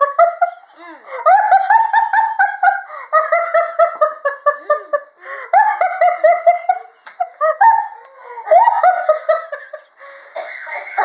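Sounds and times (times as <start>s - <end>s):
high-pitched giggling laughter: 0.0s - 10.0s.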